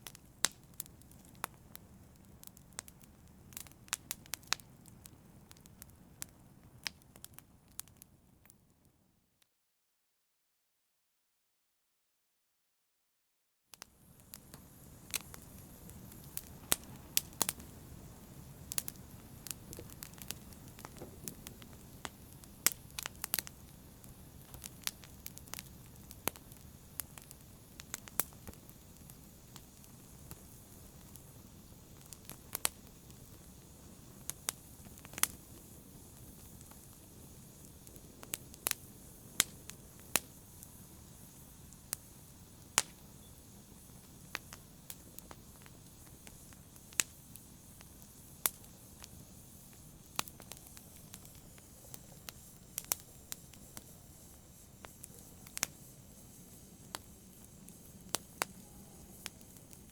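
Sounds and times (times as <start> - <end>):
fire crackling: 0.0 - 8.9, 13.8 - 59.9
low steady hiss: 0.0 - 9.2, 13.8 - 59.9.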